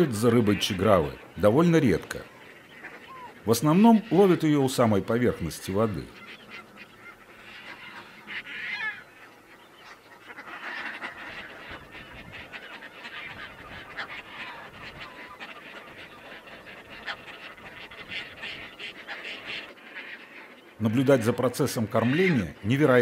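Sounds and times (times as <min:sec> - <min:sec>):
terns calling: 0:00.0 - 0:23.0.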